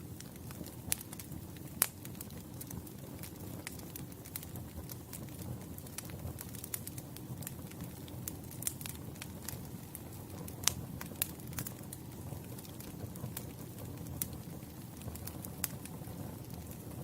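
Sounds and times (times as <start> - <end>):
burning wood crackling and popping: 0.0 - 17.0
flames rushing: 0.1 - 17.0.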